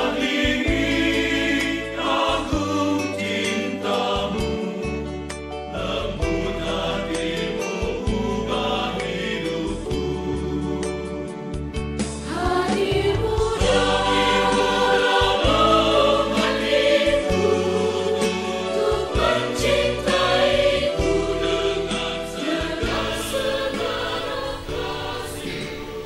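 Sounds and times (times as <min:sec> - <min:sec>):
choir singing held notes: 0:00.0 - 0:11.6, 0:12.2 - 0:26.0.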